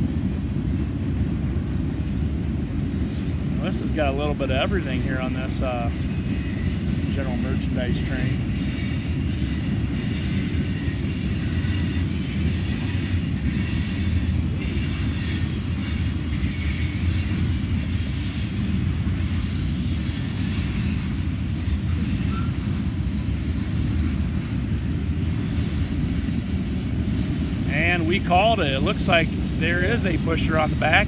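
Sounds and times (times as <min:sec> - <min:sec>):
train wheels rumbling on rail: 0:00.0 - 0:31.0
wheels squealing: 0:04.8 - 0:31.0.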